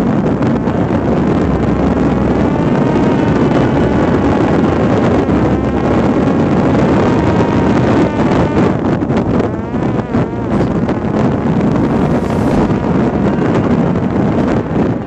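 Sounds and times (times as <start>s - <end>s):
faint wavering whine: 0.0s - 15.0s
wind buffeting microphone: 0.0s - 15.0s.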